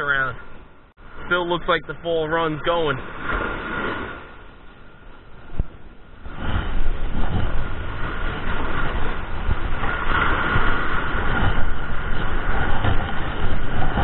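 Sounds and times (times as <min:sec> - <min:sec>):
small waves breaking: 0:00.0 - 0:14.0
wind buffeting microphone: 0:02.6 - 0:14.0.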